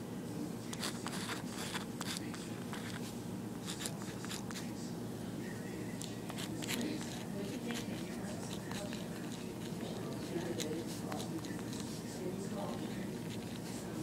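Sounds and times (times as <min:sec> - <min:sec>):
low room hum: 0:00.0 - 0:14.0
pen scratching on paper: 0:00.7 - 0:04.7, 0:06.0 - 0:14.0.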